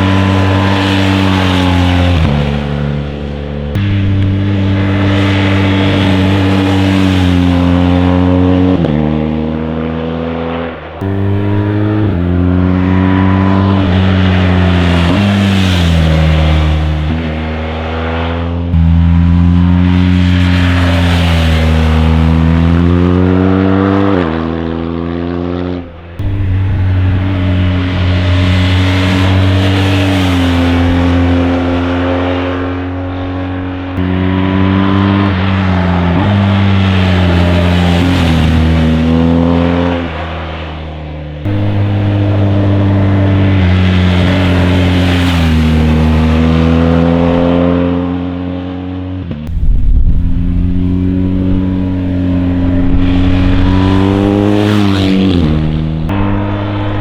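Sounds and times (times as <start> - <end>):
motorcycle engine revving through gears: 0.0 - 57.0.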